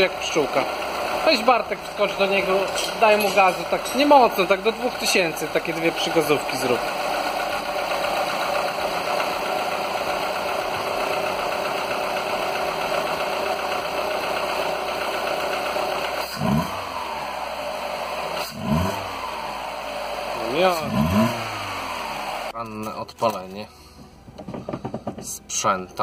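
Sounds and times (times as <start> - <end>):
petrol engine idling and revving: 0.0 - 26.0.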